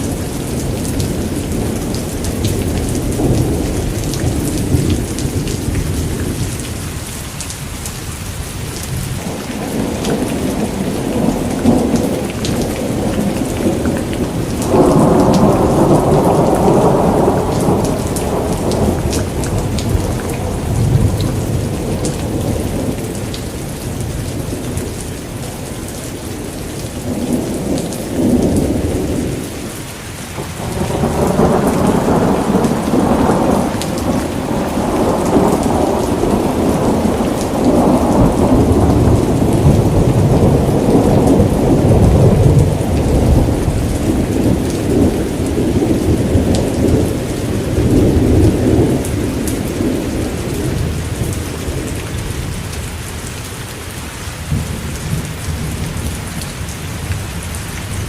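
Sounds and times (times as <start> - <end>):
thunder rumbling: 0.0 - 7.1, 8.9 - 29.7, 30.3 - 52.8
rain falling: 0.0 - 58.0.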